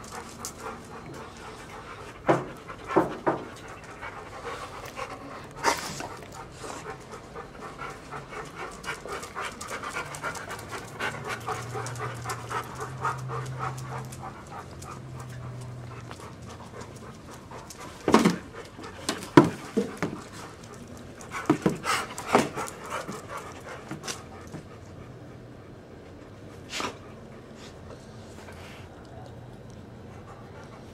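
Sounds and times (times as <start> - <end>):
dog panting: 0.0 - 29.1, 29.7 - 30.9.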